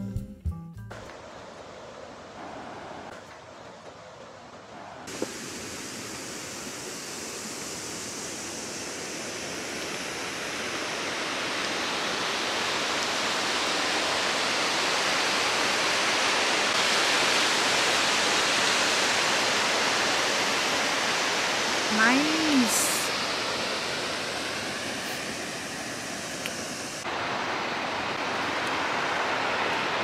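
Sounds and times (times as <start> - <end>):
rushing mountain water: 1.1 - 30.0.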